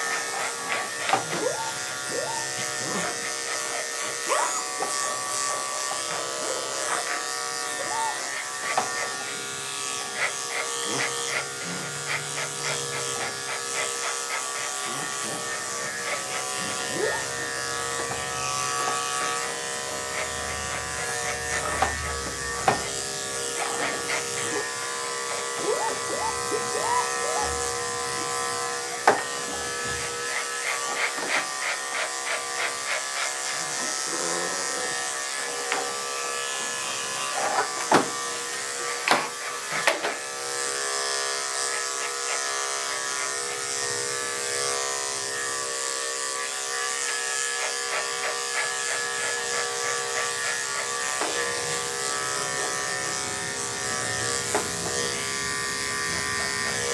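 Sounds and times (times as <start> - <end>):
electric clipper buzzing: 0.0 - 56.9.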